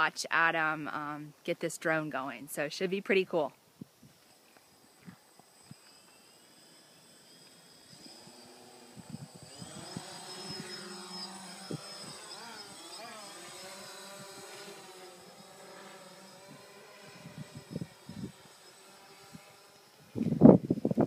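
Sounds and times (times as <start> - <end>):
drone propellers buzzing: 4.1 - 21.0.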